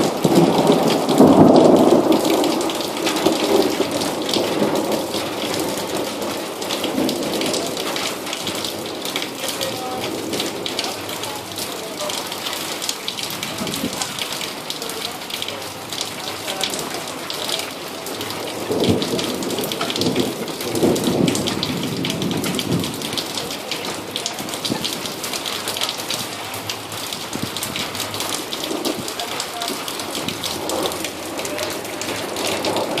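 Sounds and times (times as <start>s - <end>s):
heavy rain falling: 0.0s - 33.0s
thunder rumbling: 0.0s - 33.0s.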